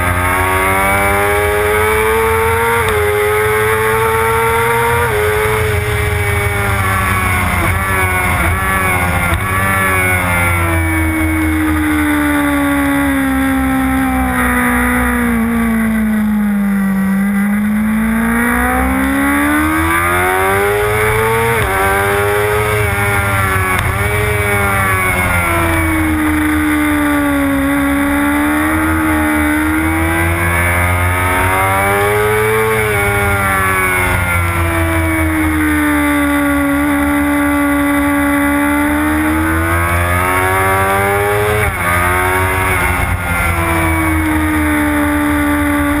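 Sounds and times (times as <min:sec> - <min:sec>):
motorcycle engine at speed: 0:00.0 - 0:46.0.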